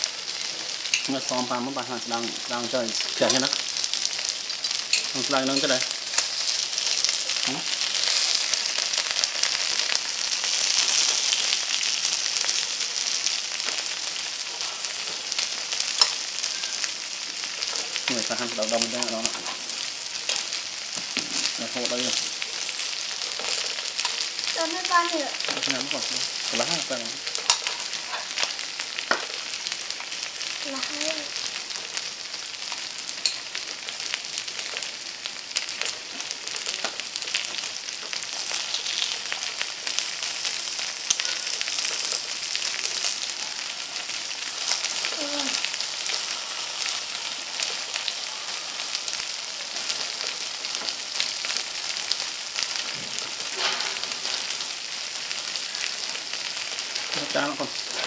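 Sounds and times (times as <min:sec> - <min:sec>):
food sizzling on a grill pan: 0:00.0 - 0:58.0.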